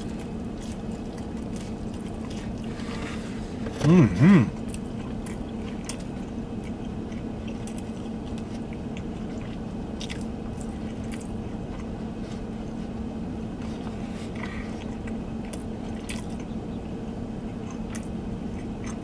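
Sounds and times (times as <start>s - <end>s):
person chewing crunchy food: 0.0s - 19.0s
steady low hum: 0.0s - 19.0s.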